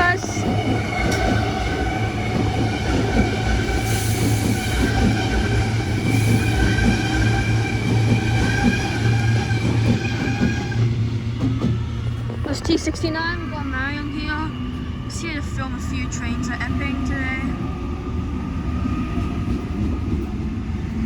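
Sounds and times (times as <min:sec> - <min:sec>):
electric train whine: 0:00.0 - 0:21.0
low train hum: 0:00.0 - 0:21.0.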